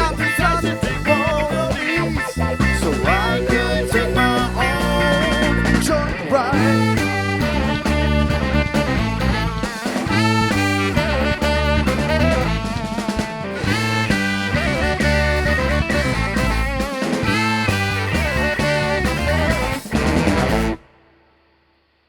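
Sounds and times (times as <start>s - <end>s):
live band playing: 0.0s - 20.9s.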